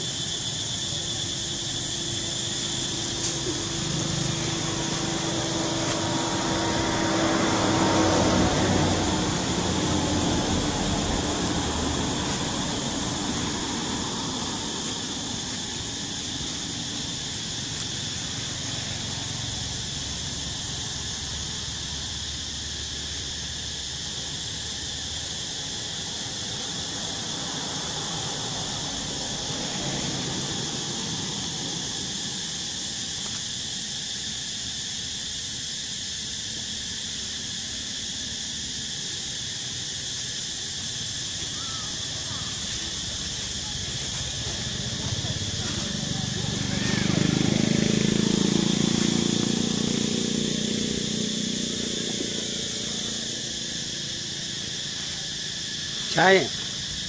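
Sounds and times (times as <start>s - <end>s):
forest insects droning: 0.0s - 57.0s.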